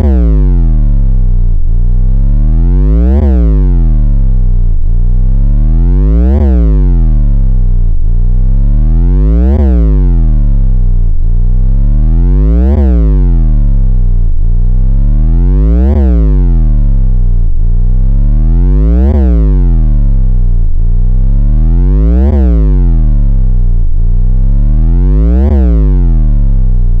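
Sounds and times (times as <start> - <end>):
synth bass drop: 0.0 - 27.0.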